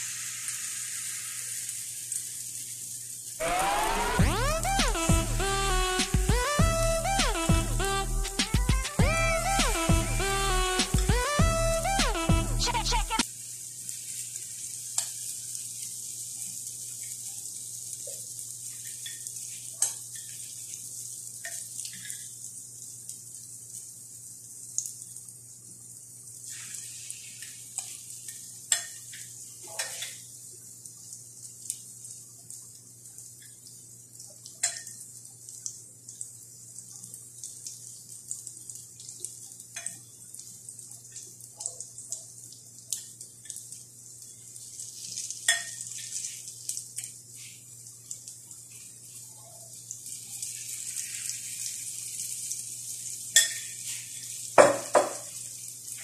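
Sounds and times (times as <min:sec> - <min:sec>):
fritters sizzling in oil: 0:00.0 - 0:04.3, 0:13.2 - 0:56.0.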